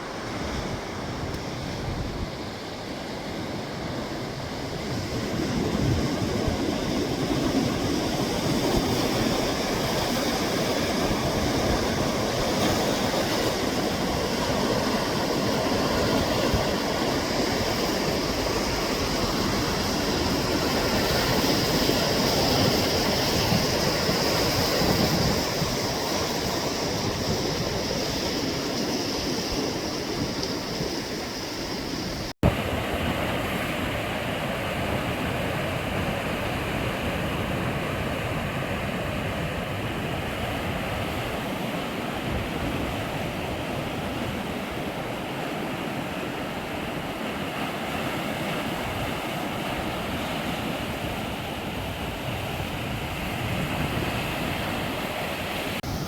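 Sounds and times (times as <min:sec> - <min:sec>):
sea waves washing on shore: 0:00.0 - 0:56.0.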